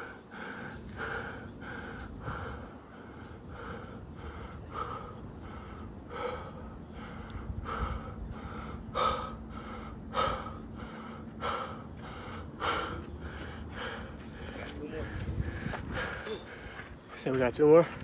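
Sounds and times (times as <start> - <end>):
person panting hard: 0.0 - 17.1.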